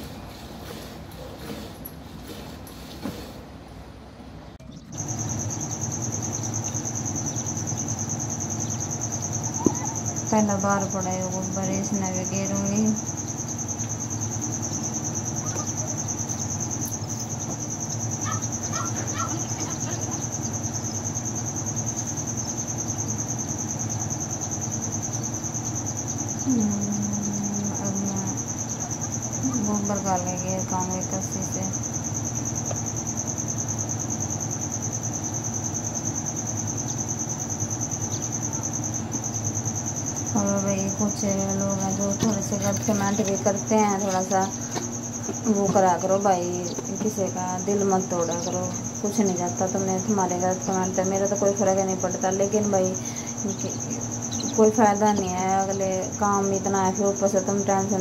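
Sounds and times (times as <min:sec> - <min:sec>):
crickets chirping: 0:00.0 - 0:02.1, 0:03.9 - 0:58.0
insects trilling: 0:04.6 - 0:58.0.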